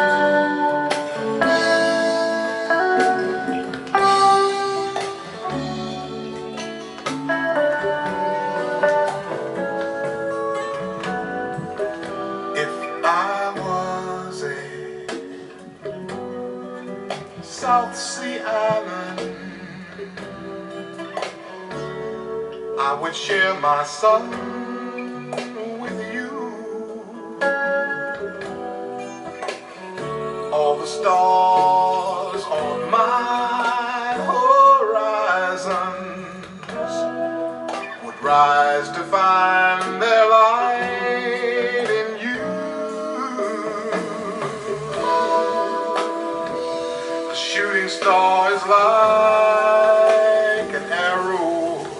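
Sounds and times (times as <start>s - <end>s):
person singing: 0.0s - 51.9s
plucked guitar: 0.0s - 51.9s.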